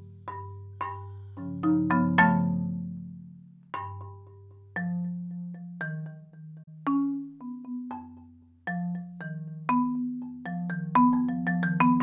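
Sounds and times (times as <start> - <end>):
marimba played with mallets: 0.0 - 12.0.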